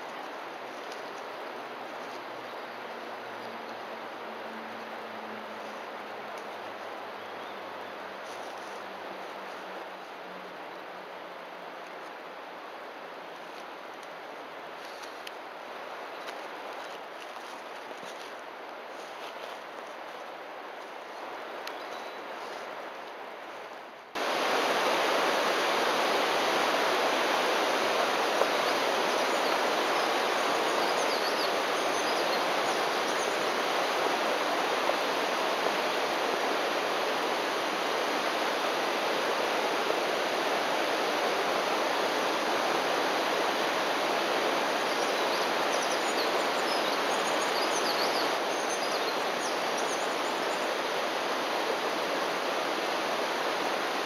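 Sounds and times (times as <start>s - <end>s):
waterfall roaring: 0.0s - 23.3s, 24.2s - 54.0s.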